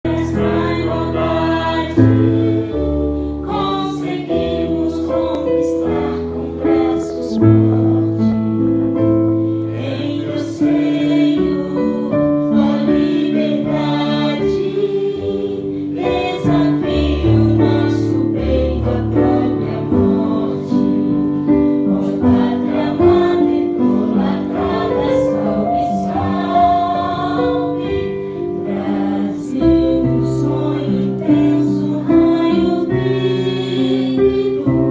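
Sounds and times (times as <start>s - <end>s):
choir singing held notes: 0.1s - 34.9s.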